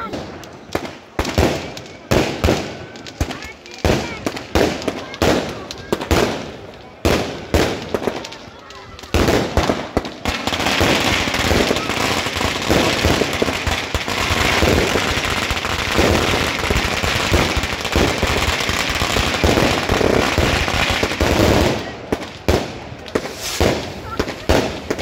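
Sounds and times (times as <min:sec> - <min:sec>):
fireworks bangs and crackle: 0:00.0 - 0:25.0.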